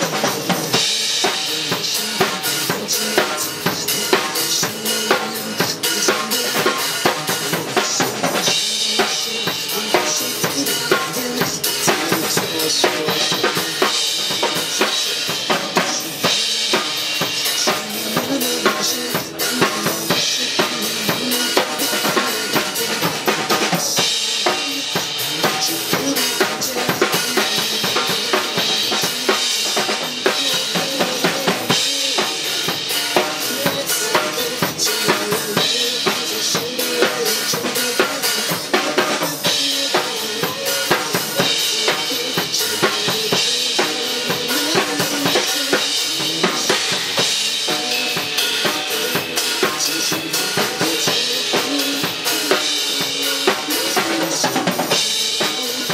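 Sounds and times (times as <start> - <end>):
drum kit playing pop groove: 0.0 - 55.9
recorded backing track: 0.0 - 55.9.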